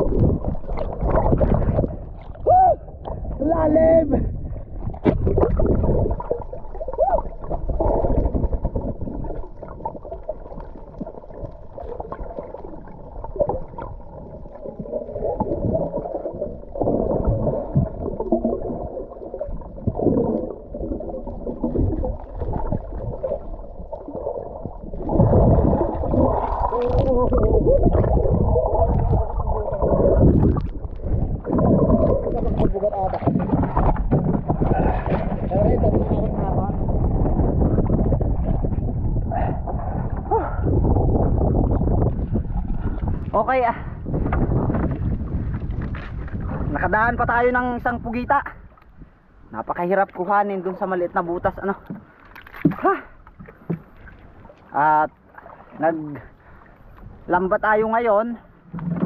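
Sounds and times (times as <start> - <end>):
muffled underwater sloshing: 0.0 - 59.0.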